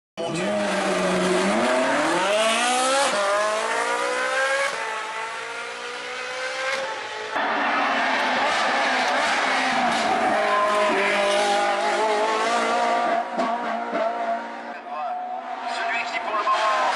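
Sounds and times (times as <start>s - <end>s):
car engine accelerating: 0.2s - 16.9s.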